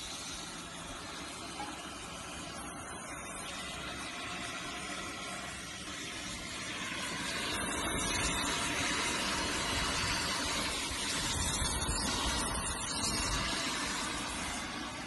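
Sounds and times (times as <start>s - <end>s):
plasma torch hissing: 0.0s - 15.0s.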